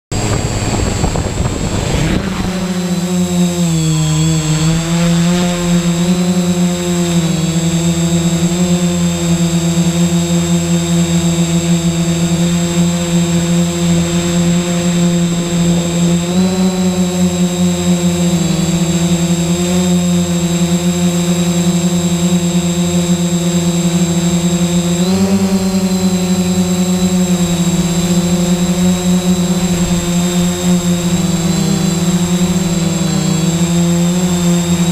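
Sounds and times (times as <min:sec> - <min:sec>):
quadcopter motors humming: 0:00.1 - 0:34.9.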